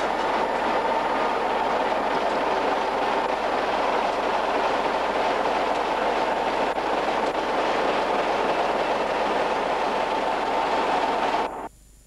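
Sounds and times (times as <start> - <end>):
diesel locomotive engine running: 0.0 - 11.7.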